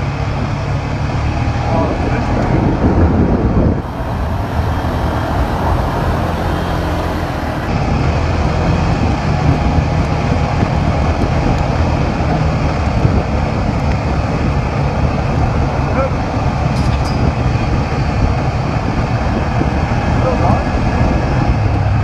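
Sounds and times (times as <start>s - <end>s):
atv engine rumbling: 0.0s - 22.0s
rough road noise: 0.0s - 22.0s.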